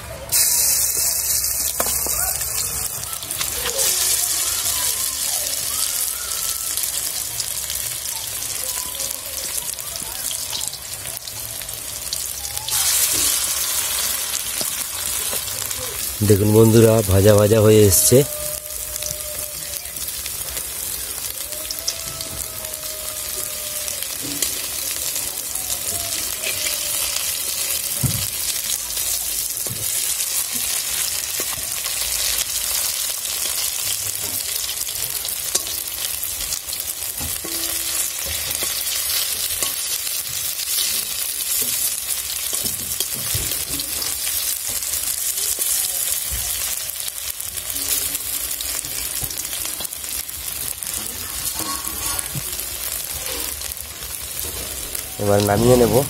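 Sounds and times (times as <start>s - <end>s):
fritters sizzling in oil: 0.0s - 56.0s.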